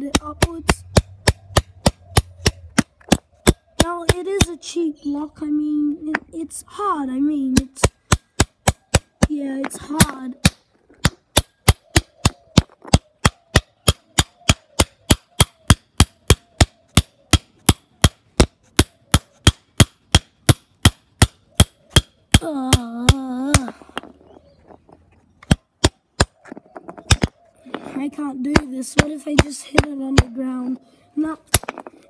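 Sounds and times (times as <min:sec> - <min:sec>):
padlock striking paving: 0:00.0 - 0:04.7, 0:07.5 - 0:30.5, 0:31.3 - 0:32.0.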